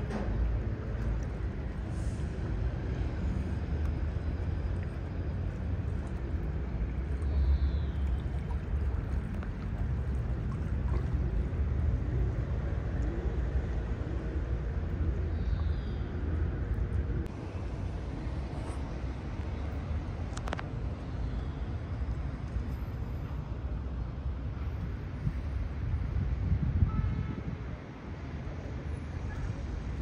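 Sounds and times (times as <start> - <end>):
moving water: 0.0 - 30.0.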